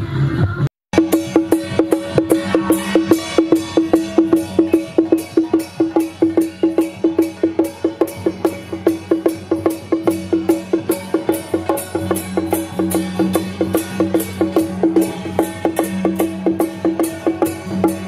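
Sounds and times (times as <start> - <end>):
drum beaten in quick rhythm: 0.9 - 18.0.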